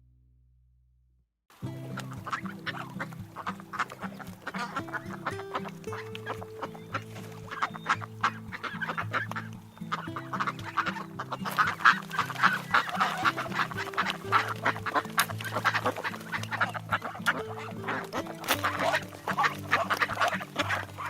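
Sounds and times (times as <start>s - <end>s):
background music: 1.5s - 21.0s
ducks quacking and honking: 1.7s - 21.0s.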